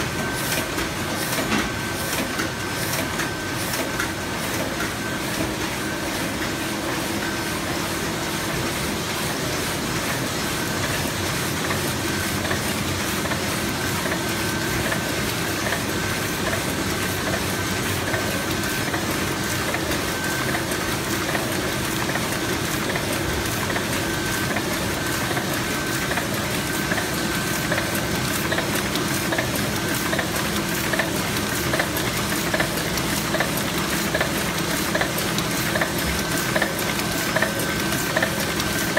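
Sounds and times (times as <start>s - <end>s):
printing press clattering: 0.0s - 38.9s.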